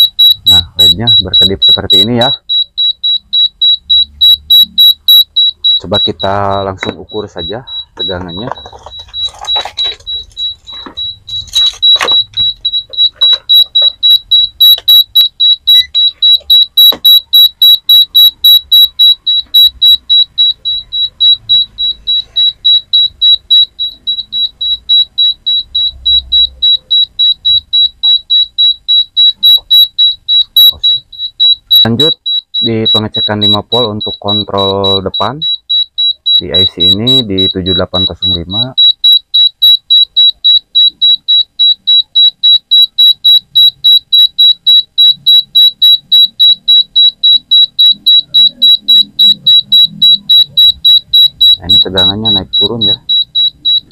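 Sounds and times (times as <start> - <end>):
rice cooker buzzer beeping: 0.0 - 53.9.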